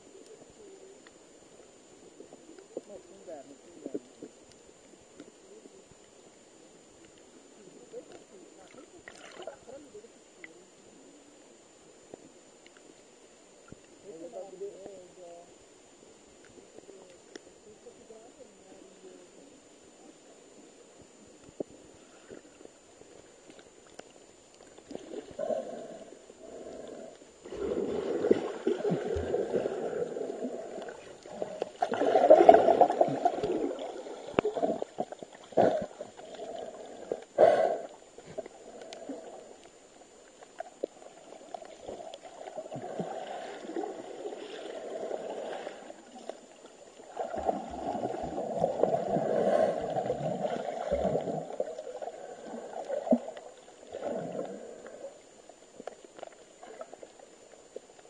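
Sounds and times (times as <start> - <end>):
underwater water sloshing and gurgling: 0.0 - 58.0.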